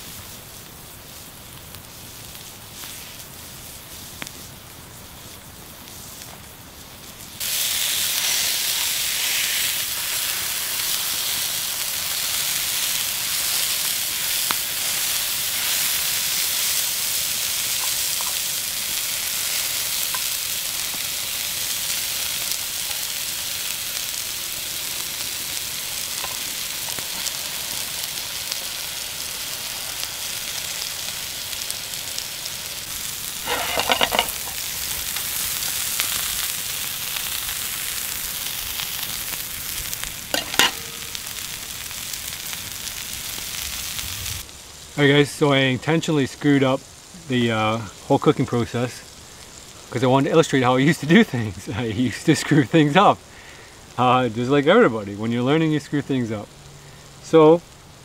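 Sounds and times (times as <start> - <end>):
burgers sizzling over fire: 0.0 - 58.0
fire crackles: 0.0 - 58.0.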